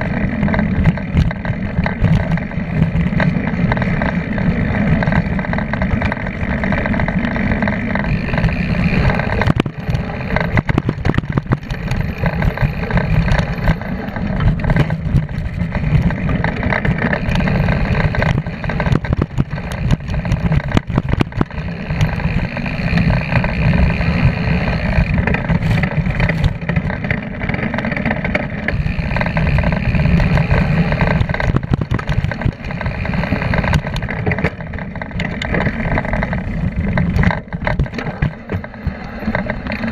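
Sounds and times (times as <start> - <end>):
bike rattling over bumps: 0.0 - 39.9
wind rumbling on microphone: 0.0 - 39.9.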